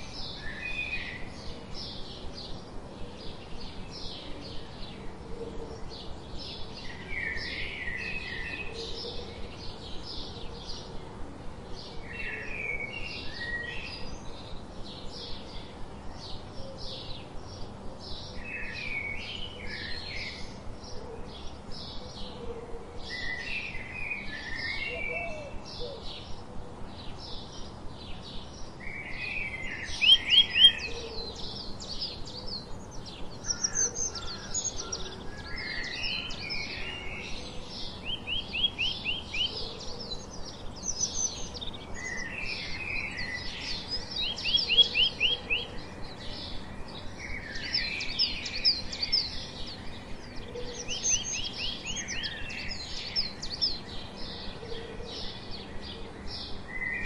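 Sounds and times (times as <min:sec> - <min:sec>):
sparrows chirping: 0:00.0 - 0:22.4, 0:23.0 - 0:57.0.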